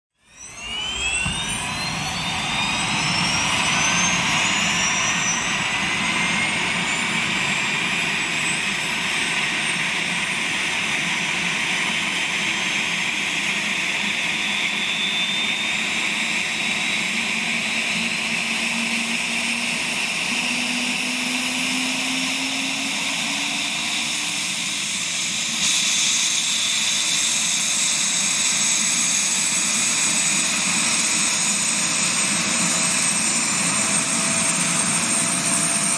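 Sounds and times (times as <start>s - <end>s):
helicopter rotor noise: 0.2s - 35.9s
helicopter turbine whine: 0.2s - 35.9s.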